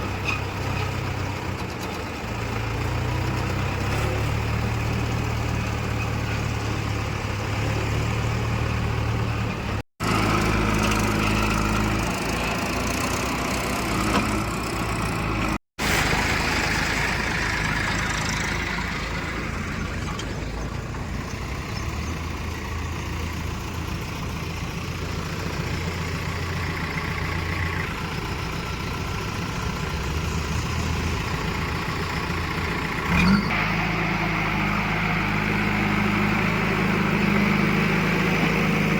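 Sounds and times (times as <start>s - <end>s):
heavy machinery diesel engines: 0.0s - 38.9s.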